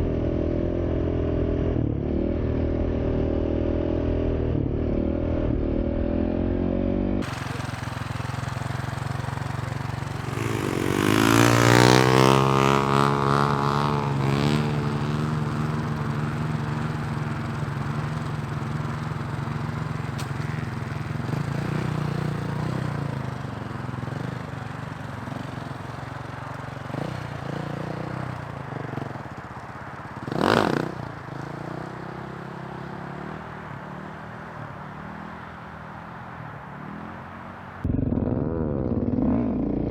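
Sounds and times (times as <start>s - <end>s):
dirt bike engine revving: 1.7s - 38.2s.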